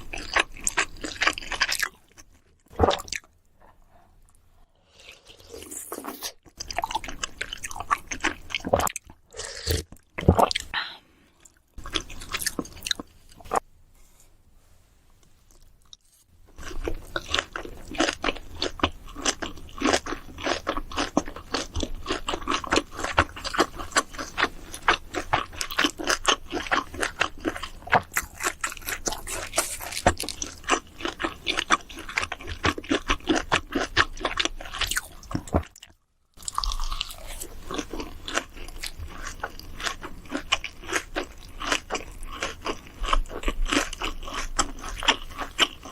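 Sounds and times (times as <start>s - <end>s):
person chewing crunchy food: 0.0s - 13.6s, 15.5s - 45.9s.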